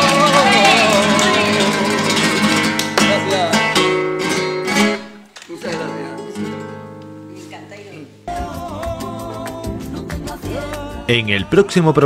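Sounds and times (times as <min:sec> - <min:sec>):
flamenco guitar strumming: 0:00.0 - 0:11.8.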